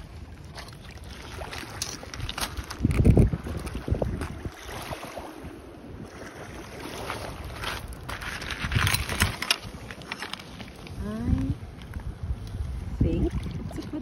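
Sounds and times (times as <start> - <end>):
wind gusting on microphone: 1.3 - 14.0.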